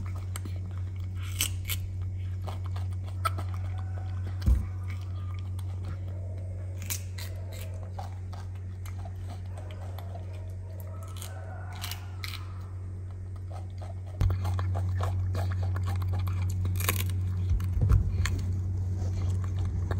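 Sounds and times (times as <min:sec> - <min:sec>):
monkey chewing cucumber crunches: 0:00.0 - 0:19.9
steady low hum: 0:00.0 - 0:19.9.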